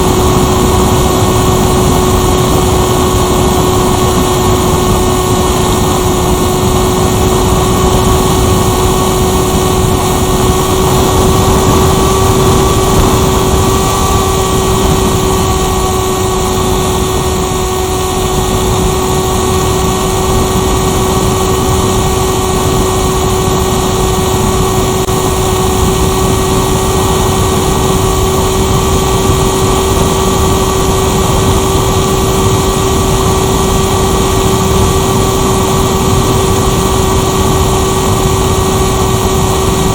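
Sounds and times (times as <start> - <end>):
electric motor and propeller hum: 0.0 - 39.9
wind rush: 0.0 - 39.9.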